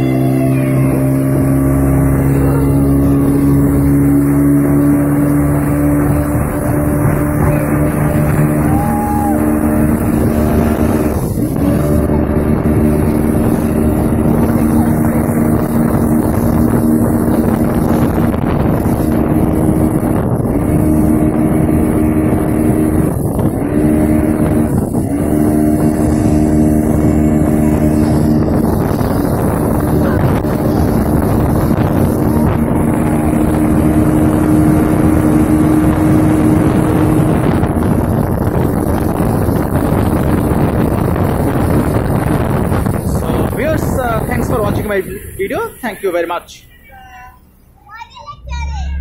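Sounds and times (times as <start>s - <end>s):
speedboat engine humming: 0.0s - 49.0s.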